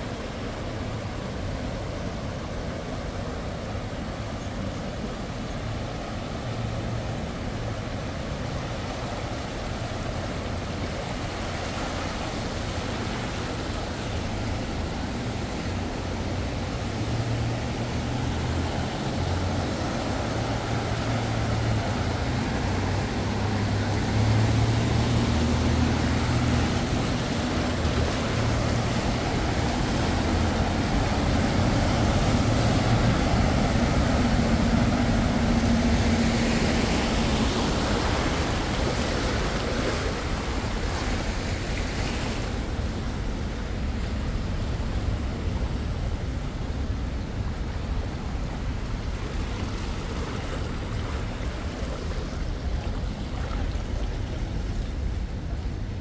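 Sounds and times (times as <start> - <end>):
vehicle ride rumble: 0.0 - 56.0.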